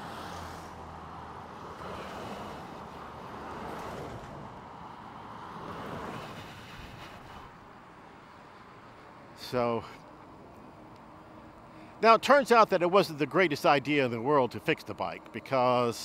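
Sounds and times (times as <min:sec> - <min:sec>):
road rumble: 0:00.0 - 0:16.0.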